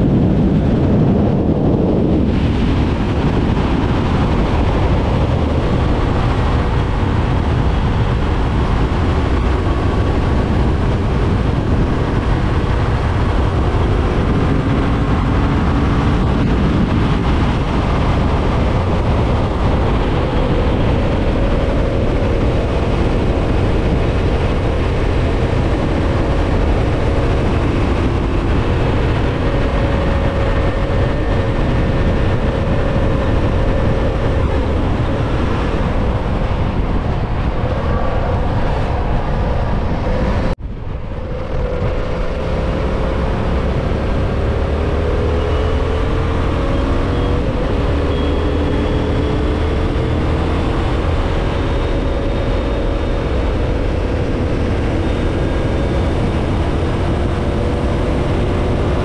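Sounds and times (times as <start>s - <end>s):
heavy wind rush: 0.0s - 59.0s
motorcycle engine droning: 0.0s - 59.0s.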